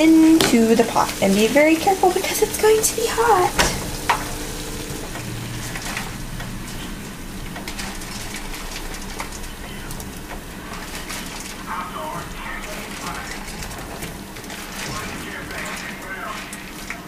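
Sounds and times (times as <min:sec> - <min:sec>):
water boiling in a pot: 0:00.0 - 0:17.0.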